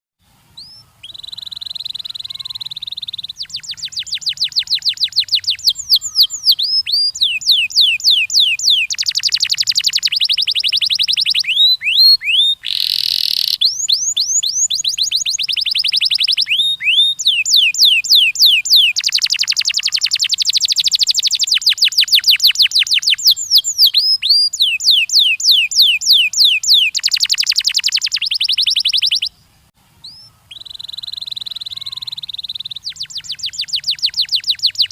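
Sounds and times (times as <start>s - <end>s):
canary singing trills: 0.4s - 34.9s.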